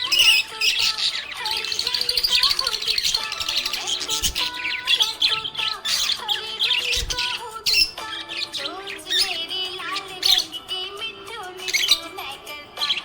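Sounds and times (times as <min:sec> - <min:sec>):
budgerigar chirping and warbling: 0:00.0 - 0:10.8, 0:11.5 - 0:13.0
background music: 0:00.0 - 0:13.0.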